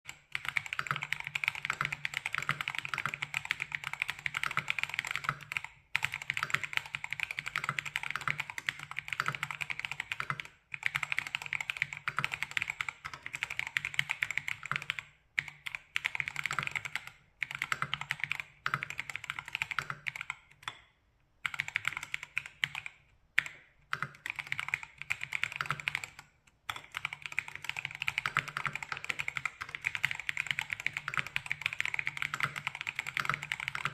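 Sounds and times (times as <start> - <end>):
mechanical keyboard typing: 0.1 - 20.8, 21.4 - 33.9.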